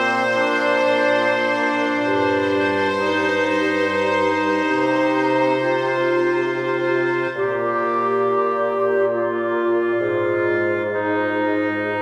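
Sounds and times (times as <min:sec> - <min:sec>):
music of slow held chords: 0:00.0 - 0:12.0.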